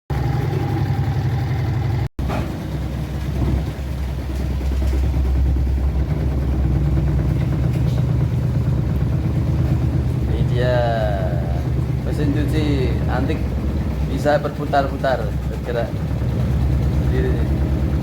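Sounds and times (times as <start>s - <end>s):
washing machine spinning: 0.1s - 18.0s.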